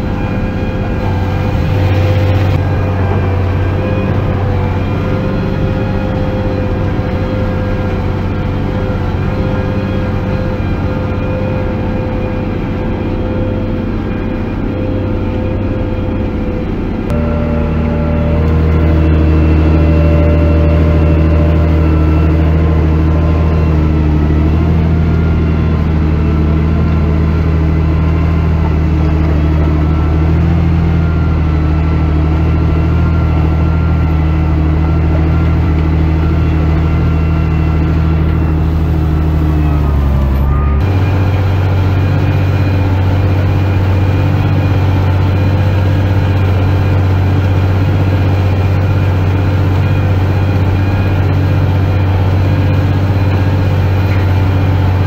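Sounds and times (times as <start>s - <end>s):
diesel tractor engine droning: 0.0s - 55.0s.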